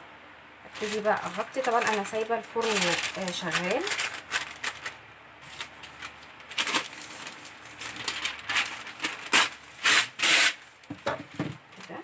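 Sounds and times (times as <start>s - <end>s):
aluminium foil crinkling: 0.7s - 11.0s, 11.7s - 12.0s.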